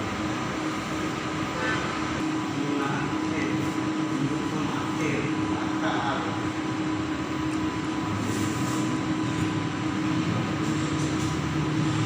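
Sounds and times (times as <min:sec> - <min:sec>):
printing machine humming: 0:00.0 - 0:12.0.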